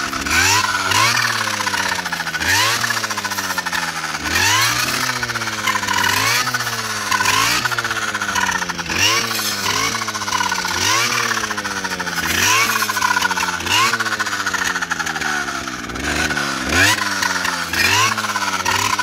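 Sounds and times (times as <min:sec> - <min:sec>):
brush cutter engine revving: 0:00.0 - 0:19.0.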